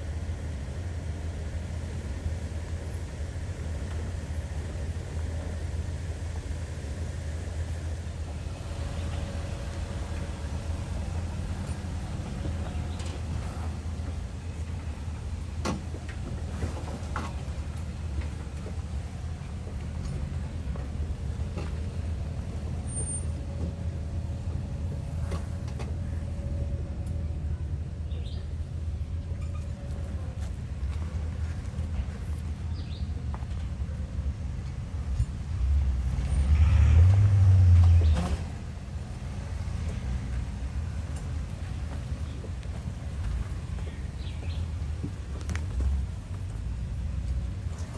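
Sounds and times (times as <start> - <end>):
engine low drone: 0.0 - 47.9.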